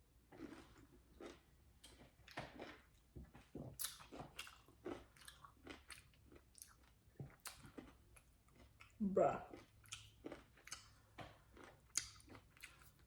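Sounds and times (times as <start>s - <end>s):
person chewing: 0.4s - 13.0s.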